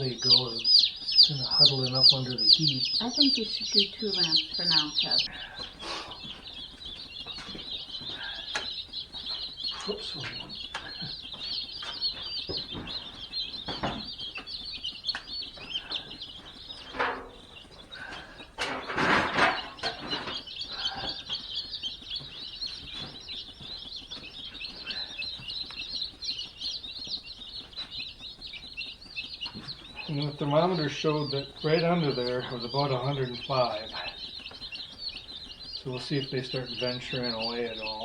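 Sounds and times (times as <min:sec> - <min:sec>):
baby chicks peeping: 0:00.0 - 0:38.0.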